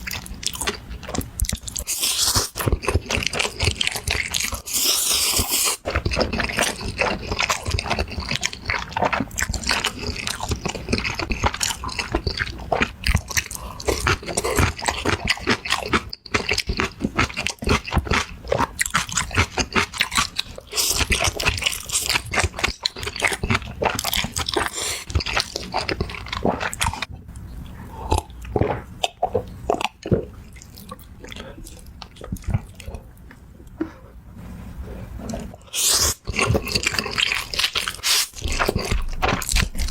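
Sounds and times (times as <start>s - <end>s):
crunching and chewing fried chicken: 0.0s - 33.5s, 35.2s - 39.9s.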